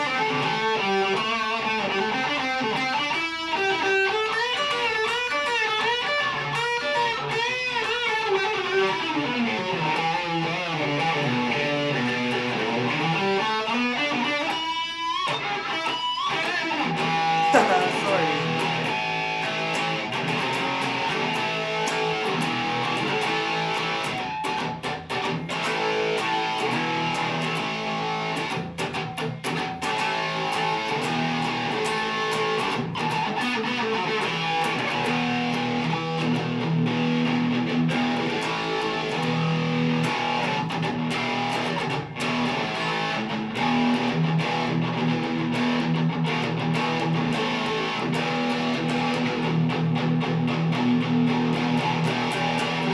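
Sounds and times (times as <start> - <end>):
electric guitar notes and chords: 0.0 - 52.9.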